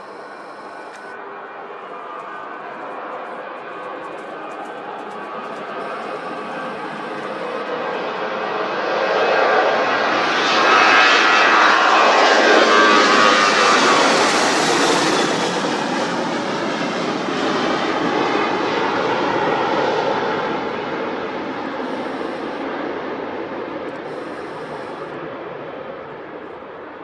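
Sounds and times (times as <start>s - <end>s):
aircraft engines passing: 0.0s - 27.0s.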